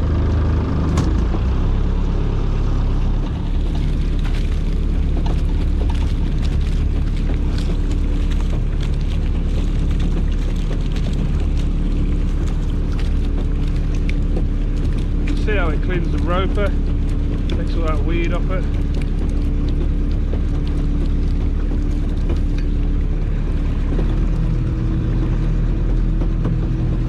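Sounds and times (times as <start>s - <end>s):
boat engine running: 0.0s - 27.0s
water dripping: 3.3s - 27.0s.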